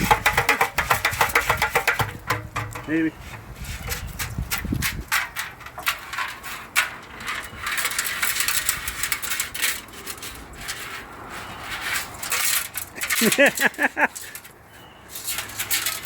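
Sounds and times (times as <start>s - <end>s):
nuts rattling inside metal tank: 0.0s - 3.1s, 3.7s - 14.5s, 15.1s - 16.0s.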